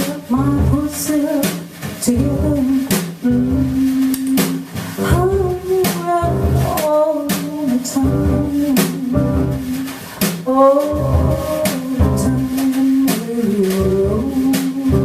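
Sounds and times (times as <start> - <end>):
jazz band playing: 0.0 - 15.0.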